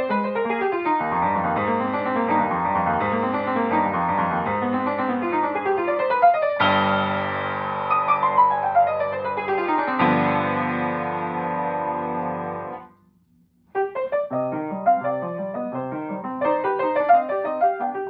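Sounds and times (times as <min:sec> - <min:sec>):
upright piano playing: 0:00.0 - 0:12.9, 0:13.7 - 0:18.0.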